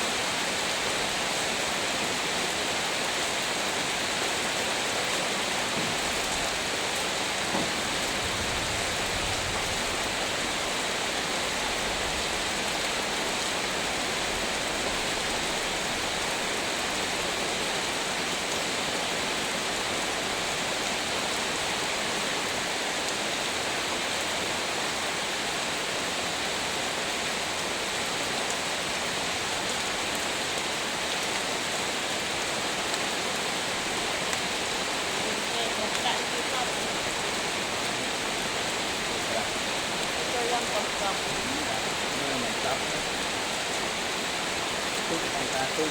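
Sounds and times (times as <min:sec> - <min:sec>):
heavy rain hiss: 0:00.0 - 0:45.9.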